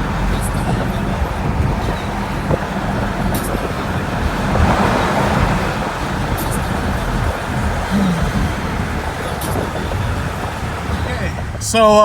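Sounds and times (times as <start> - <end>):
road and engine noise inside car: 0.0 - 12.0.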